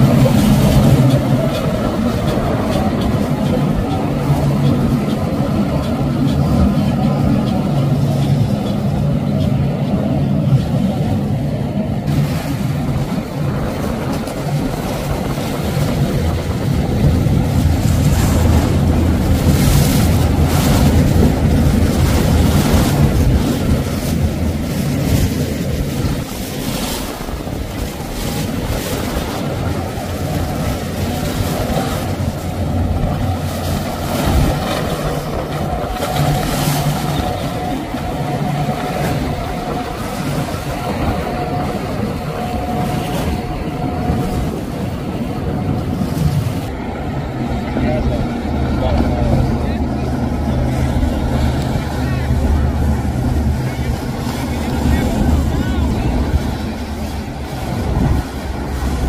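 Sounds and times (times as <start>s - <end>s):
hulls splashing through water: 0.0s - 59.0s
outboard engines droning: 0.0s - 59.0s.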